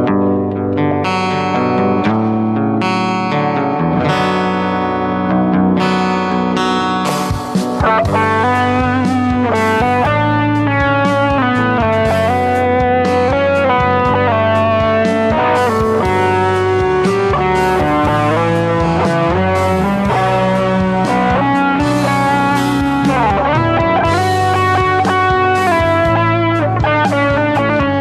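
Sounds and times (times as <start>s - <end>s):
electric guitar music: 0.0s - 28.0s.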